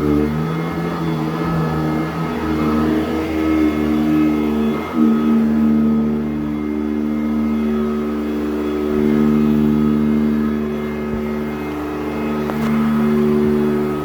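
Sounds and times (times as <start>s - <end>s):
vacuum cleaner on carpet: 0.0s - 14.0s.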